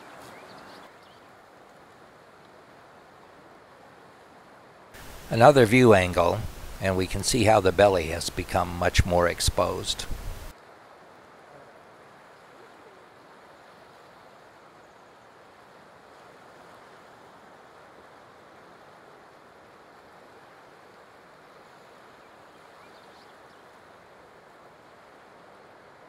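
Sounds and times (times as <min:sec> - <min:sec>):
faint ocean surf: 0:00.0 - 0:26.0.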